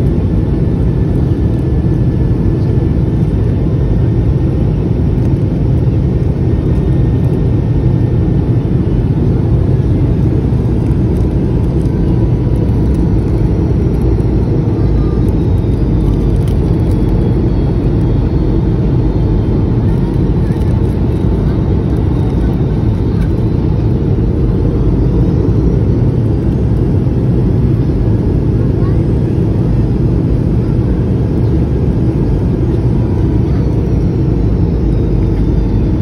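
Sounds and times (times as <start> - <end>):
airplane cabin rumble: 0.0 - 36.0.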